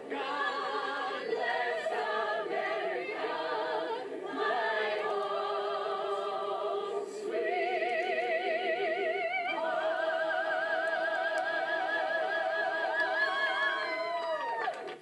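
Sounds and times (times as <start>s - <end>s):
group singing with vibrato: 0.0s - 14.4s.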